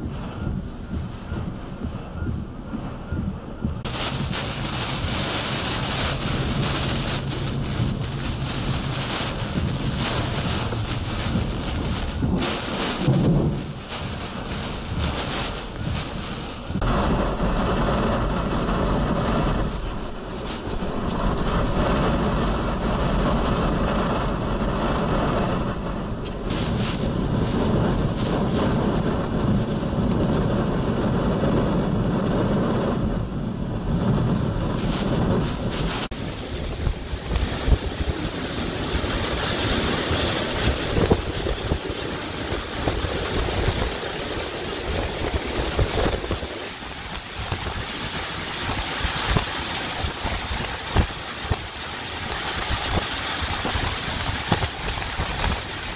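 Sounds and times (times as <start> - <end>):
rain and debris pelting car: 0.0 - 55.9
wind blasting onto microphone: 0.0 - 55.9
wind howling and buffeting car: 0.0 - 55.9.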